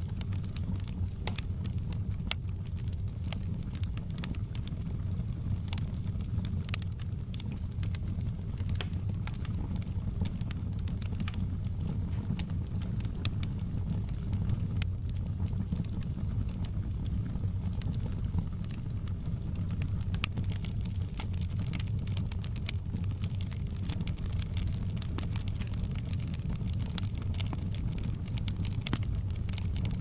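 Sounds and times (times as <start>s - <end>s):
fire crackling and popping: 0.0s - 30.0s
low rumble of fire: 0.0s - 30.0s.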